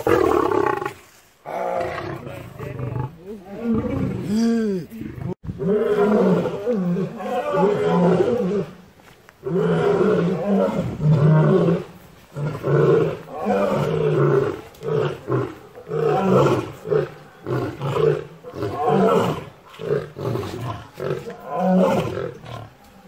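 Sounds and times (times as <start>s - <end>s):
lion roaring: 0.0s - 4.5s, 5.1s - 8.8s, 9.4s - 22.8s.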